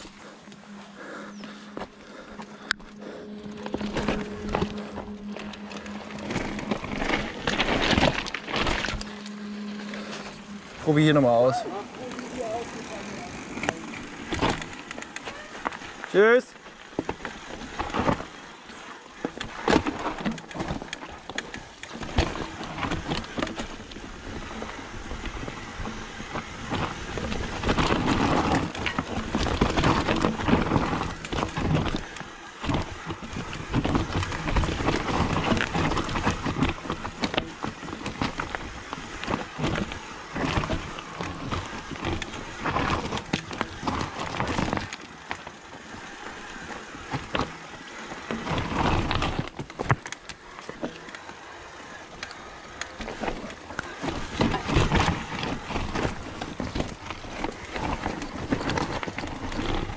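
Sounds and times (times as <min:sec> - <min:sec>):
bike rattling and knocking: 0:00.0 - 0:59.9
tyres grinding over loose stone: 0:10.8 - 0:59.9.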